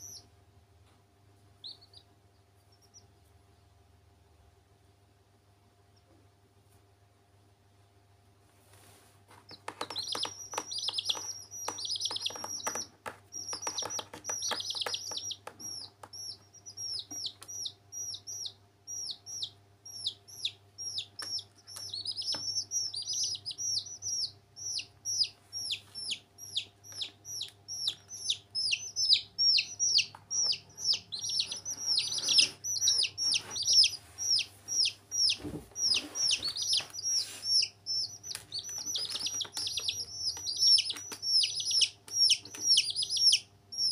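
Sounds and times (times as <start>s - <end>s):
baby chicks peeping: 0.0s - 3.8s, 8.8s - 43.9s.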